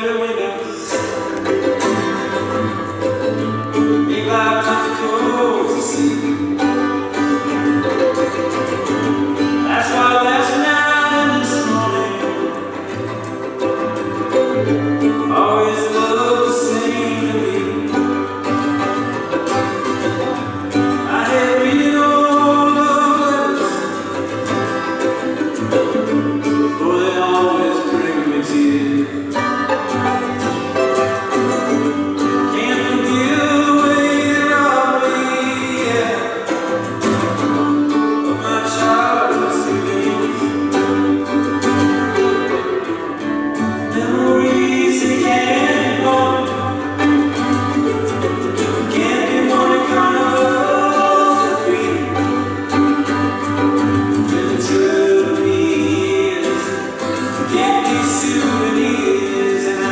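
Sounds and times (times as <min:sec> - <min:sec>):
person singing: 0:00.0 - 0:59.9
strummed acoustic guitar: 0:00.0 - 0:59.9
violin bowed and plucked: 0:00.0 - 0:59.9.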